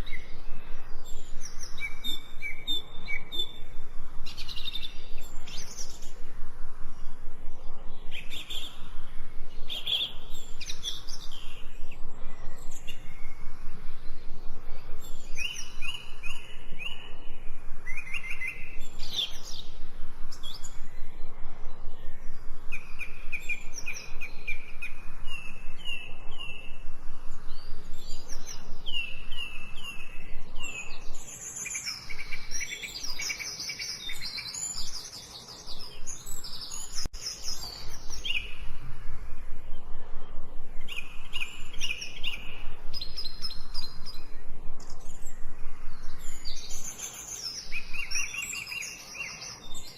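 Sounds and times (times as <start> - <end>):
faint background hiss: 0.0 - 49.9
songbirds chirping and trilling: 0.0 - 49.9.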